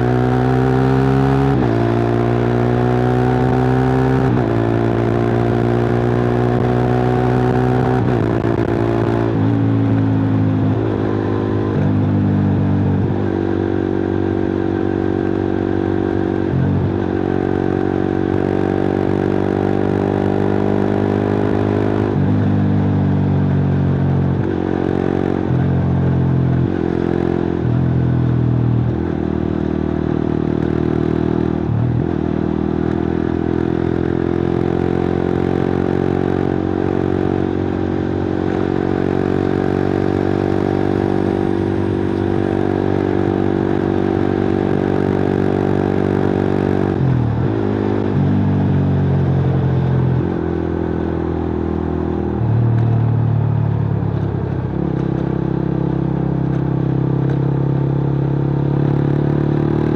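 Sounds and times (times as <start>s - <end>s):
motorcycle engine with open exhaust: 0.0s - 59.9s.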